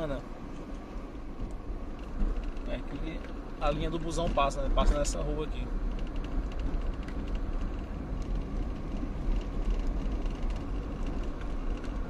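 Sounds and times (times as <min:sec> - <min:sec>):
engine and tyres rumbling: 0:00.0 - 0:12.0
faint light rattles: 0:01.4 - 0:12.0.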